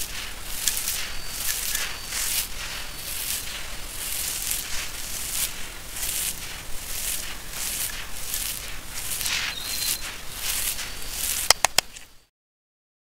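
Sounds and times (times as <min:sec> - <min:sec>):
gritty sand mix pouring: 0:00.0 - 0:11.6.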